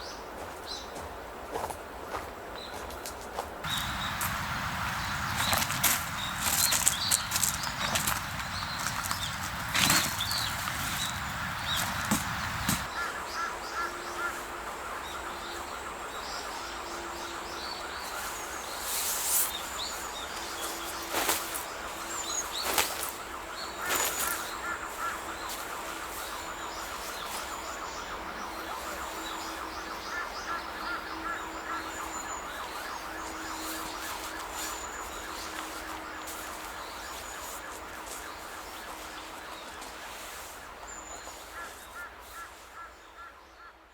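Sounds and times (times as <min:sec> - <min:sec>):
small birds chirping: 0:03.6 - 0:43.4.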